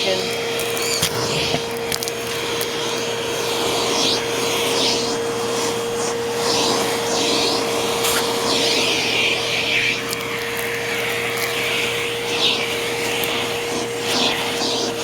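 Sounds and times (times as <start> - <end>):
upright vacuum cleaner motor whine: 0.0 - 15.0
vacuum swishing over floor: 0.0 - 15.0.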